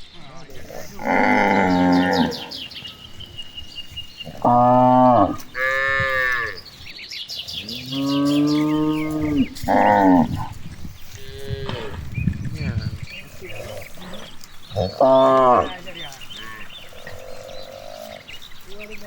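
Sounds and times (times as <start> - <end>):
cows mooing: 0.5 - 2.7, 4.2 - 6.7, 7.6 - 12.1, 12.7 - 19.0.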